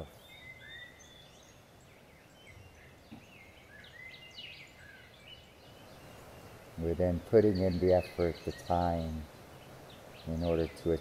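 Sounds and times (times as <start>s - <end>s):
birds chirping faintly: 0.0s - 11.0s
steady background hiss: 0.0s - 11.0s.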